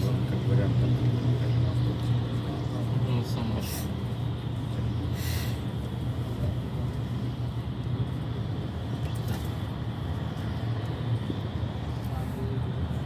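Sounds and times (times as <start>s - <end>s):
engine and tyres on wet road: 0.0s - 13.0s.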